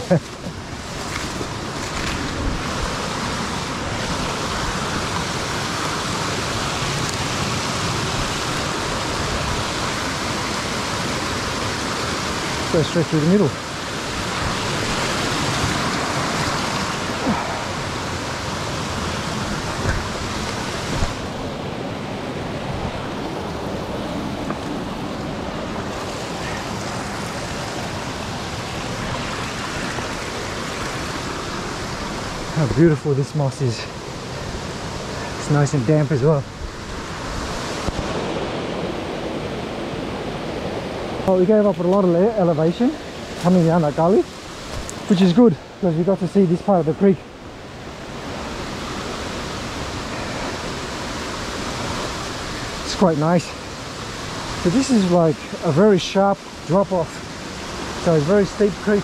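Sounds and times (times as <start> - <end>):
creek water rushing over boulders: 0.0 - 59.0.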